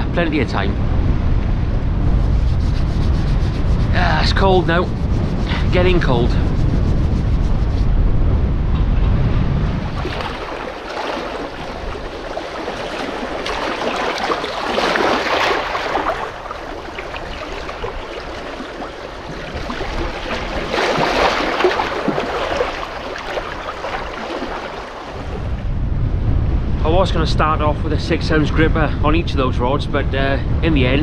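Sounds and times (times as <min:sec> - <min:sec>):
tide washing over rocks: 0:00.0 - 0:31.0
wind buffeting microphone: 0:00.0 - 0:31.0.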